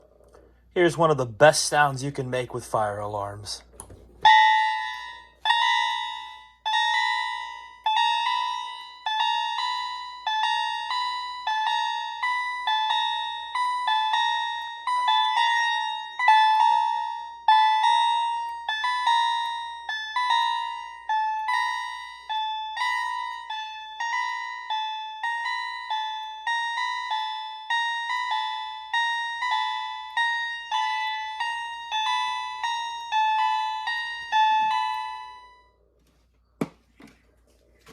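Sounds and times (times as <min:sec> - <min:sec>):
electronic fire alarm chimes: 0:04.2 - 0:35.8.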